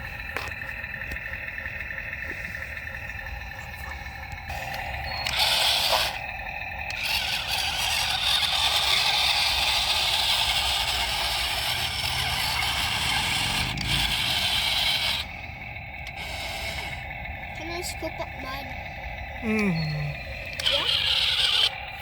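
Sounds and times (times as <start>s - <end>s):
toy excavator scraping and whirring: 0.0s - 18.8s, 19.4s - 22.0s.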